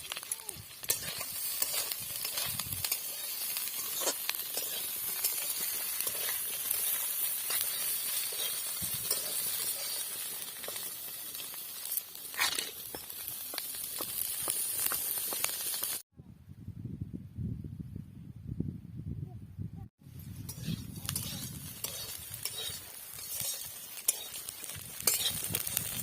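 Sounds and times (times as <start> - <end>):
oil and food sizzling in a pan: 0.0 - 16.0, 20.1 - 26.0.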